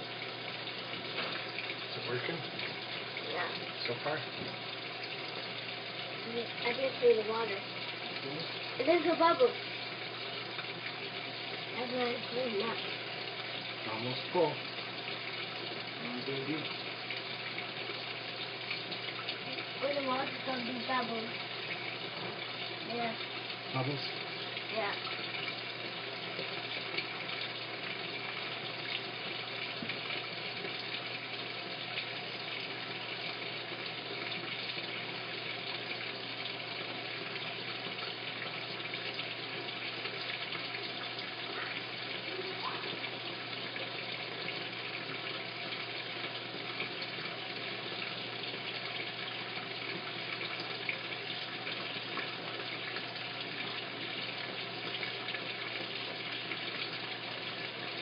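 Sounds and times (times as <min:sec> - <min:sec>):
water pouring into drum: 0:00.0 - 0:58.0.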